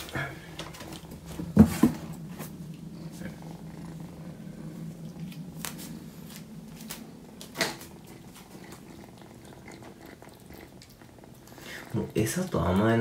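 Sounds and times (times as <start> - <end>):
kitten purring: 0.0 - 13.0.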